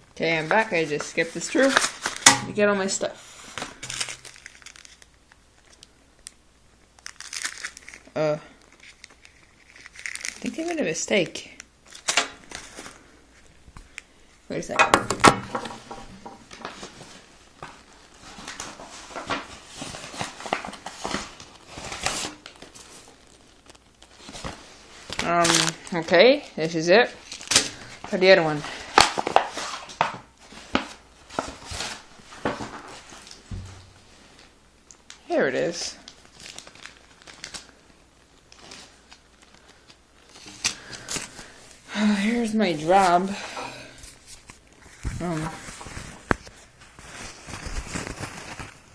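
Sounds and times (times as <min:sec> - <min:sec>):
packaging rustling: 0:00.6 - 0:14.2, 0:15.1 - 0:26.5, 0:27.1 - 0:35.2, 0:36.0 - 0:48.9.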